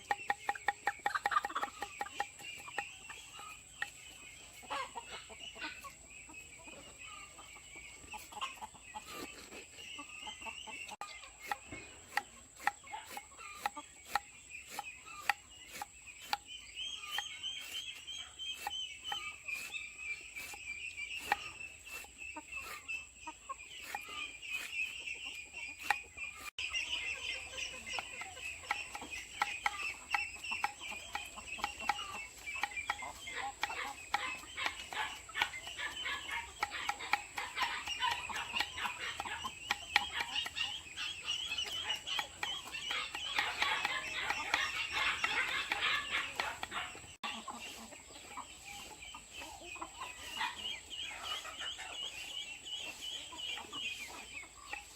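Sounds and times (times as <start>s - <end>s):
hens clucking: 0.0s - 54.9s.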